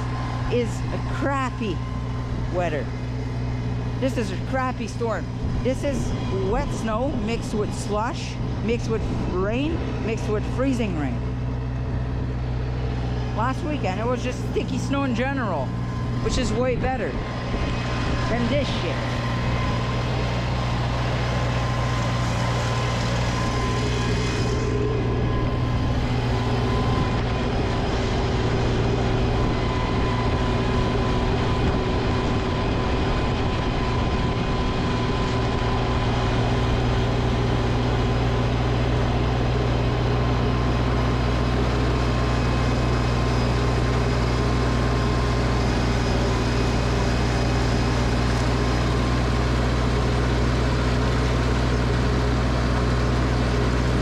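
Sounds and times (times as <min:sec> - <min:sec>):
snowblower engine running: 0:00.0 - 0:54.0.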